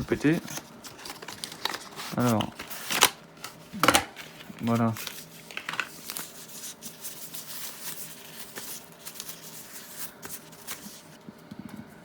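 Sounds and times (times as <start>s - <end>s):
packaging rustling: 0.0s - 11.3s.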